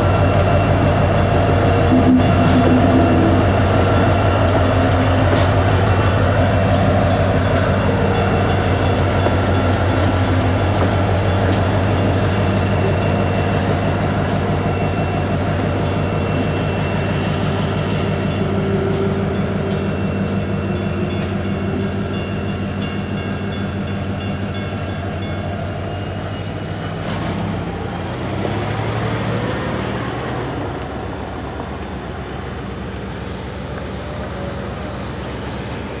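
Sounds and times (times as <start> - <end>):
locomotive engine droning: 0.0 - 36.0.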